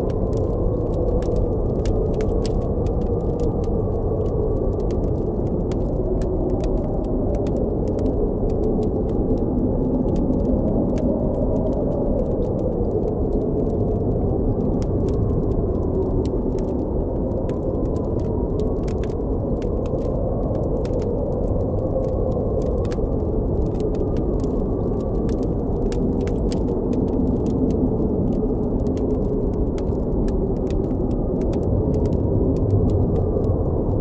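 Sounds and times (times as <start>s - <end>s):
blizzard wind howling: 0.0s - 34.0s
campfire crackling: 0.0s - 34.0s.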